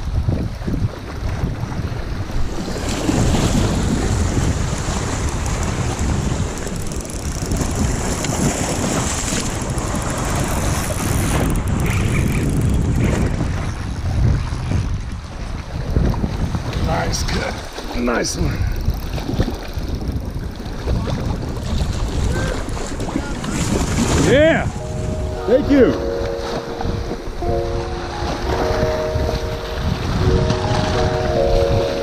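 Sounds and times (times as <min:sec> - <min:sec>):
lake waves washing in: 0:00.0 - 0:32.0
wind buffeting microphone: 0:00.0 - 0:32.0.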